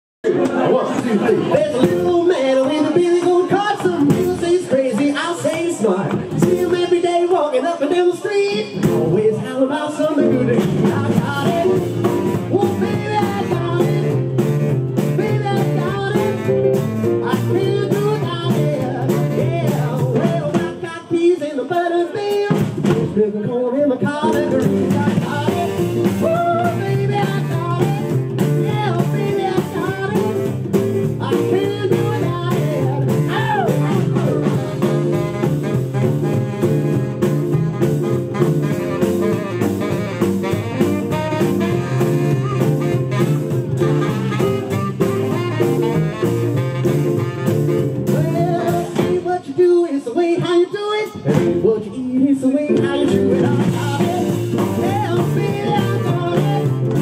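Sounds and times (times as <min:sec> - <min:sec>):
rock band playing live: 0:00.3 - 0:49.8, 0:50.4 - 0:57.0.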